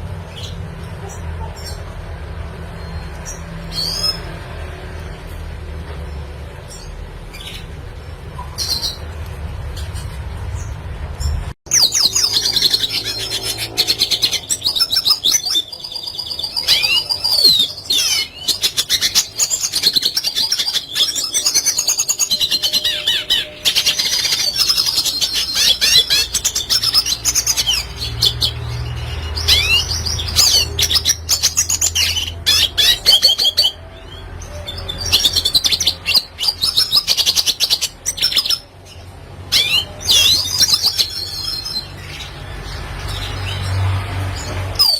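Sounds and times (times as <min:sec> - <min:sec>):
bird twittering song: 0:06.5 - 0:44.9.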